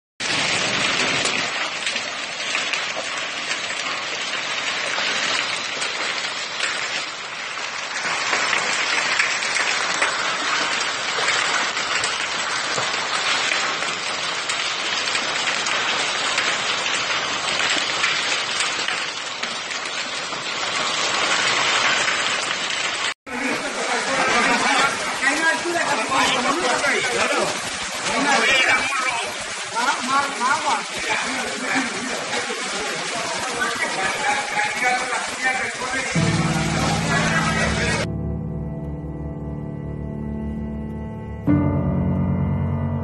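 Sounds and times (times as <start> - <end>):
hail and rain falling: 0.2 - 38.1.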